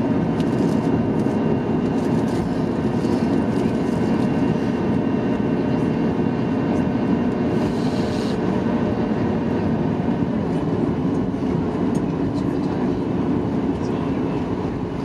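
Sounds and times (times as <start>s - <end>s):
aircraft cabin low rumble: 0.0s - 15.0s
jet engines idling whine: 0.0s - 15.0s.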